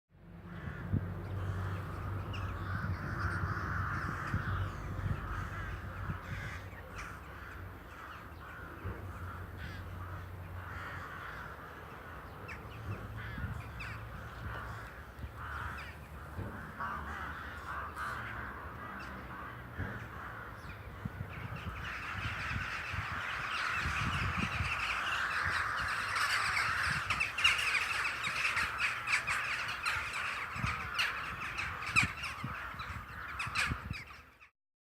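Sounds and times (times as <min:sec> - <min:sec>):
crows cawing: 0:00.4 - 0:34.5.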